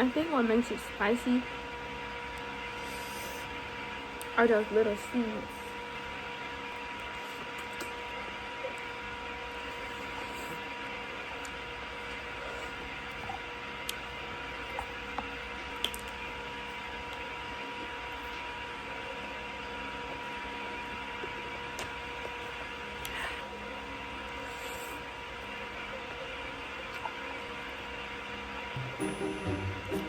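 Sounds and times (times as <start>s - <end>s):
electrical hum and hiss: 0.0s - 30.0s.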